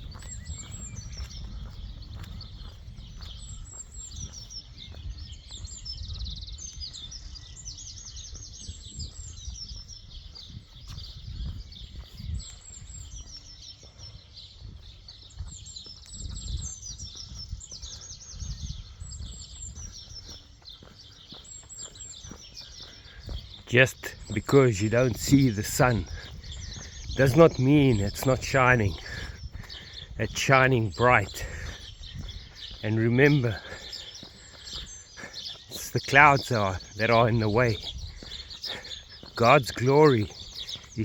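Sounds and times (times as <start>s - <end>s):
small songbirds chirping: 0.0s - 41.0s.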